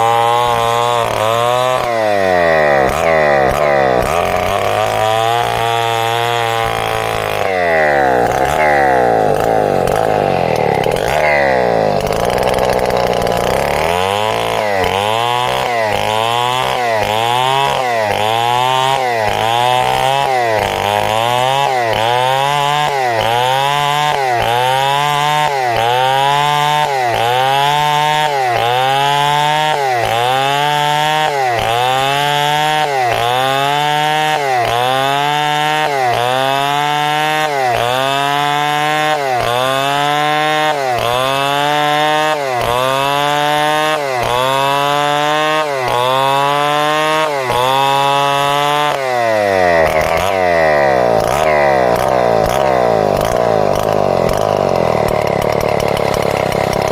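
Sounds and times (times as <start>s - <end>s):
chainsaw cutting timber: 0.0s - 56.9s.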